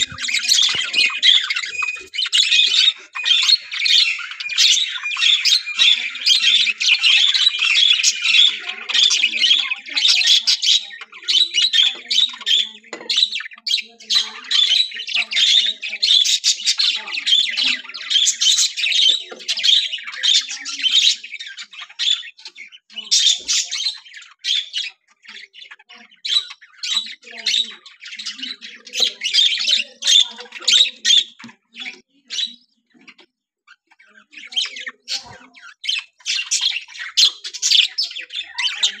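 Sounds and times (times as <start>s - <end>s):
budgerigars chattering: 0.0s - 39.0s.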